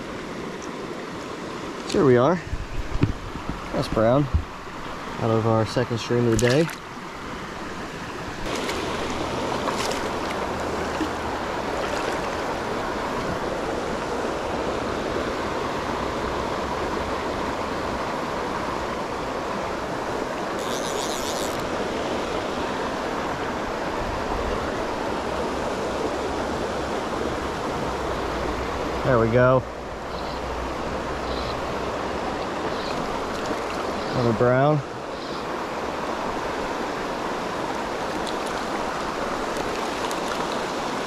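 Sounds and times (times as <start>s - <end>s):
rocky stream rushing: 0.0s - 41.0s.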